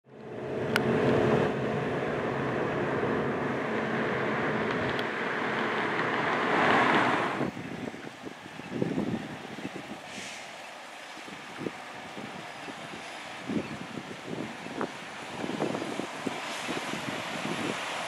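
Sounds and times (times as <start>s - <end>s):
passing vehicles: 0.1s - 18.0s.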